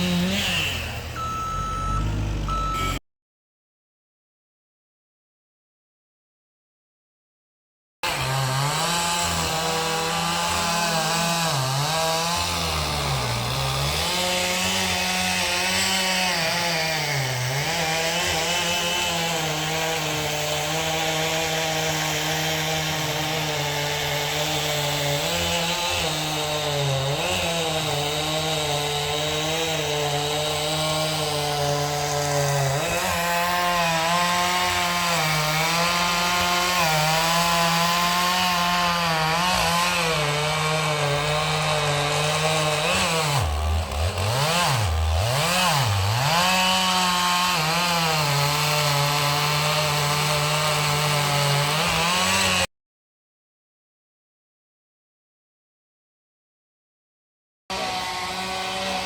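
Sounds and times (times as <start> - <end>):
chainsaw cutting into tree: 0.0 - 2.9, 8.0 - 52.7, 57.7 - 59.0.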